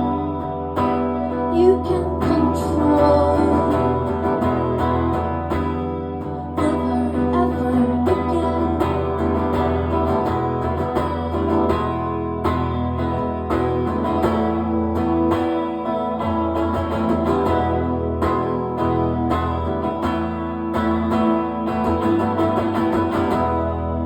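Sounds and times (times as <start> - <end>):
strummed guitar: 0.0 - 24.0.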